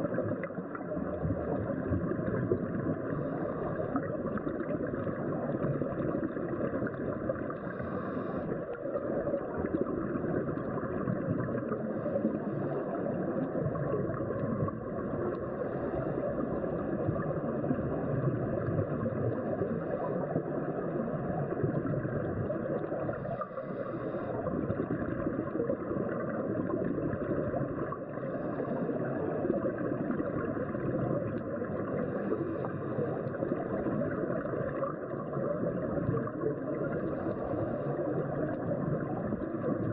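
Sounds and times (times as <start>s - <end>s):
muffled underwater rushing: 0.0s - 39.9s.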